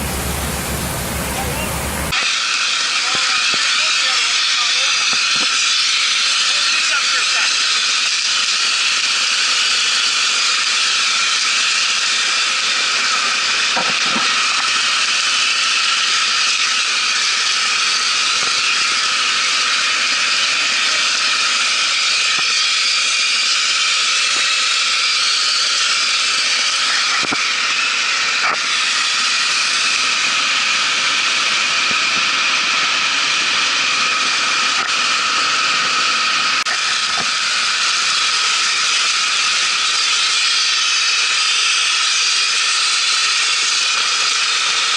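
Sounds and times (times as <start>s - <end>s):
concrete spraying hiss: 0.0s - 44.9s.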